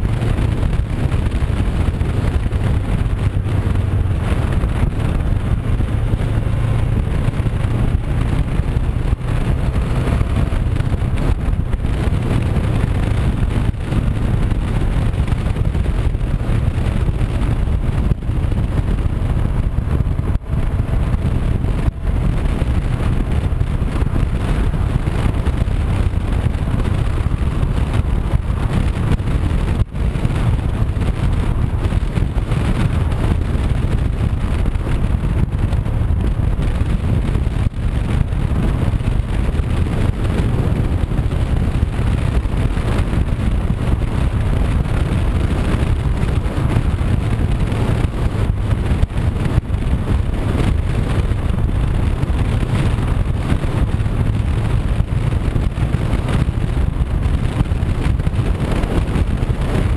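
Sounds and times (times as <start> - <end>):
motorcycle engine running: 0.0 - 59.9
road noise: 0.0 - 59.9
wind buffeting microphone: 0.0 - 59.9.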